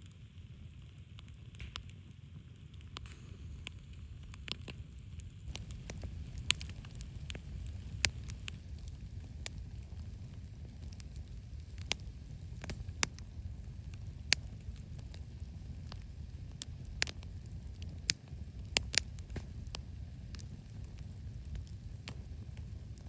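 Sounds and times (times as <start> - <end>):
low steady rumble: 0.0 - 23.0
wood fire crackling and popping: 0.0 - 23.0.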